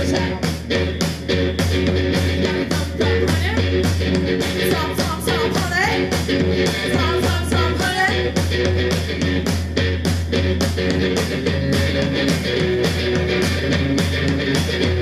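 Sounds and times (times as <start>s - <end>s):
distorted electric guitar: 0.0s - 15.0s
driving drumbeat: 0.0s - 15.0s.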